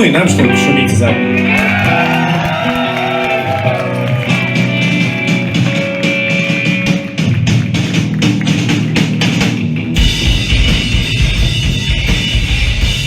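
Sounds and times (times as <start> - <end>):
rock band electric guitars: 0.0 - 13.0.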